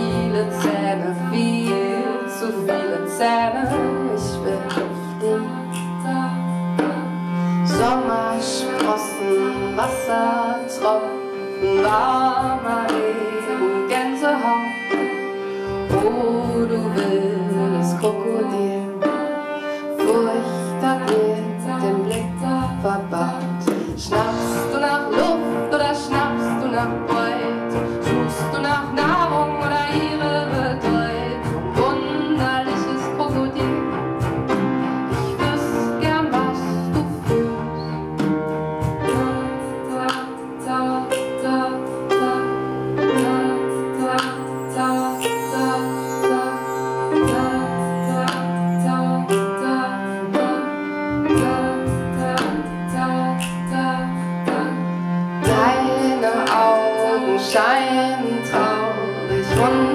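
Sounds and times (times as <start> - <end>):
cello: 0.0 - 59.9
grand piano: 0.0 - 59.9
woman singing: 0.0 - 59.9.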